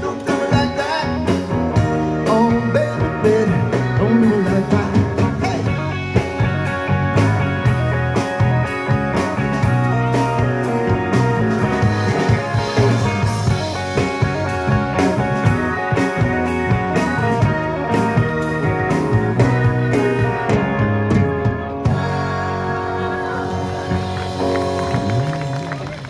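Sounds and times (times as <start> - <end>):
drum kit beat: 0.0 - 25.5
electric guitars: 0.0 - 26.0
keyboard: 0.0 - 26.0.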